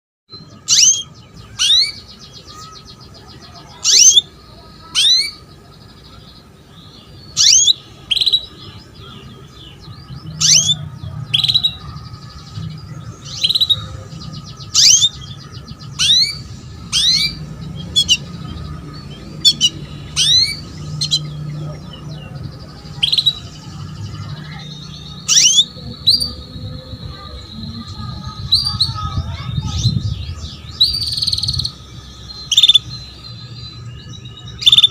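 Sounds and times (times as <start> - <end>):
canary chirping: 0.3 - 34.9
faint bird twittering: 0.3 - 34.9.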